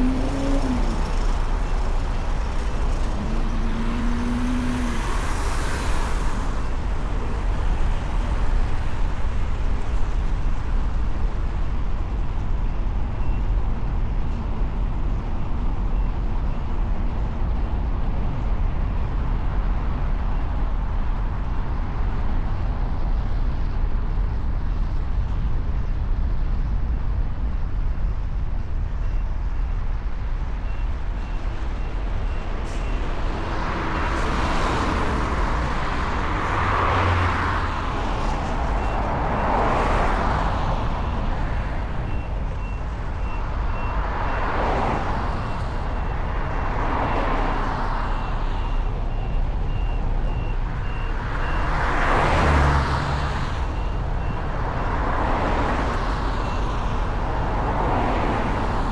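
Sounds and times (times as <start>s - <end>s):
city traffic rumble: 0.0s - 58.9s.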